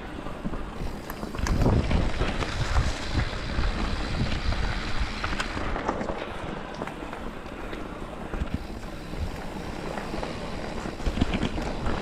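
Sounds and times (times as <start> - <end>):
bike tyres rumbling over rocks: 0.0 - 12.0
clatter of rocks and bike: 0.0 - 12.0
wind buffeting microphone: 0.0 - 12.0.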